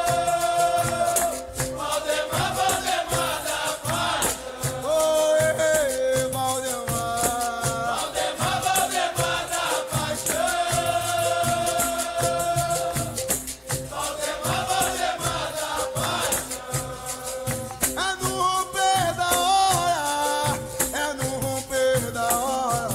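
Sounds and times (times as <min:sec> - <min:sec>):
berimbau: 0:00.0 - 0:22.9
rattling shaker: 0:00.0 - 0:22.9
steady percussion beat: 0:00.0 - 0:22.9
voices singing long notes: 0:00.0 - 0:22.9.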